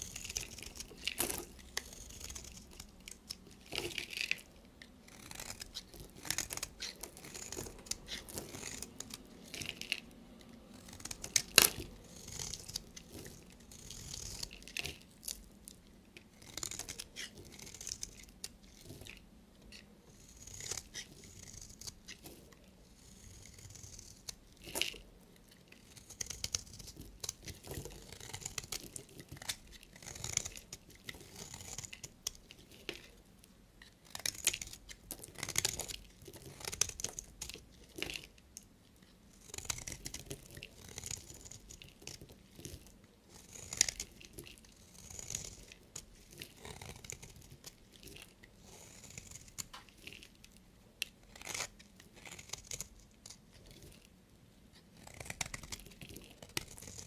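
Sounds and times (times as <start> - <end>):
knife cutting soap: 0.0 - 57.0.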